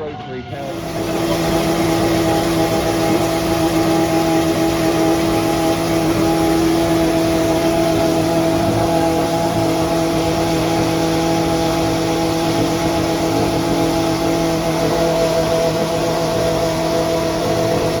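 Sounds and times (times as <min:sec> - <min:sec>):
car engine droning at steady revs: 0:00.5 - 0:18.0.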